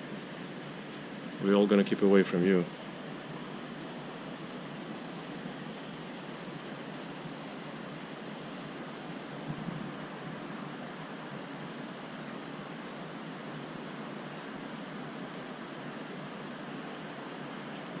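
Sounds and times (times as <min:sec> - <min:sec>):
aquarium water churning: 0:00.0 - 0:18.0.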